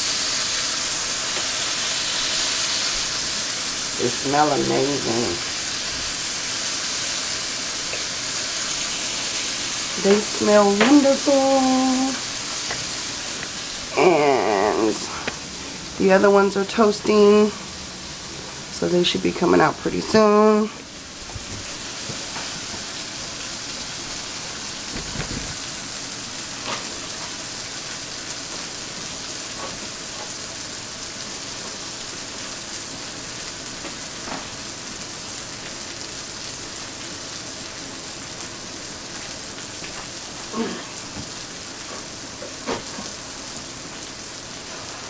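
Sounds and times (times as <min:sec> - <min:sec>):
sausage patties sizzling in a pan: 0:00.0 - 0:18.9, 0:20.4 - 0:45.0.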